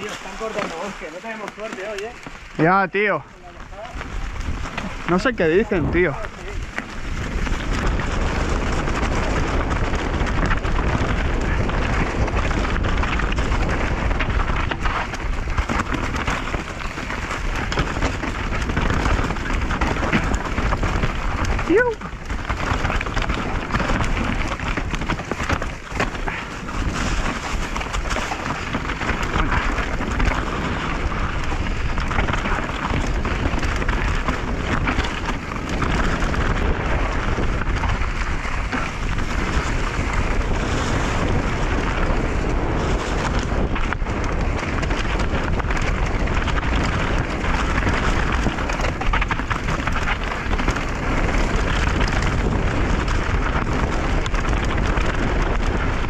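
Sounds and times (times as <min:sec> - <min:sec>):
bike knocking and rattling: 0:00.0 - 0:56.0
wind and tyre noise: 0:00.0 - 0:56.0.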